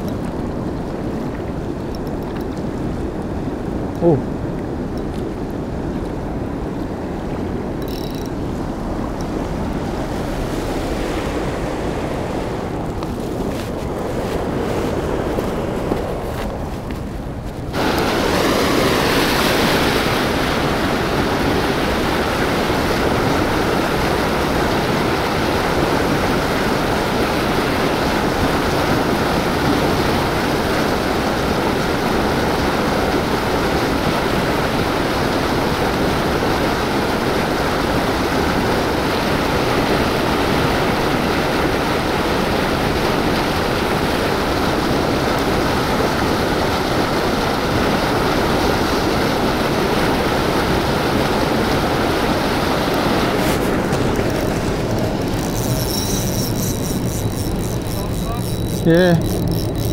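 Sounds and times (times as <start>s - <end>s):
churning river water: 0.0s - 59.9s.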